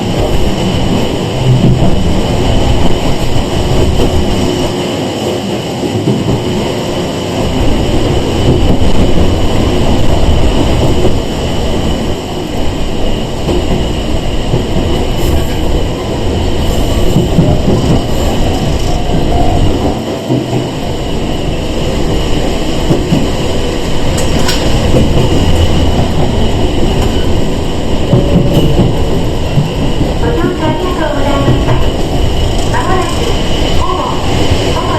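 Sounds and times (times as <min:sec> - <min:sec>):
rail joint clicks: 0:00.0 - 0:34.9
train wheels rumbling: 0:00.0 - 0:34.9.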